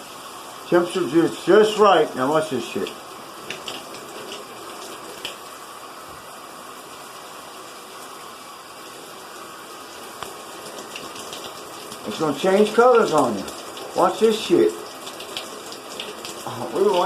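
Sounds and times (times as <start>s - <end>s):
shower spraying water: 0.0s - 17.0s.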